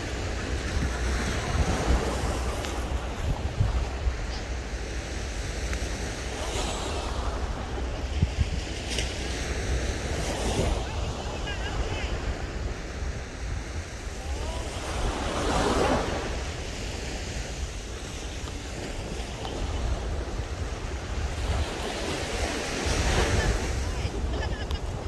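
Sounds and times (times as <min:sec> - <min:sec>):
surf waves breaking on sand: 0:00.0 - 0:25.0
wind buffeting microphone: 0:00.0 - 0:25.0.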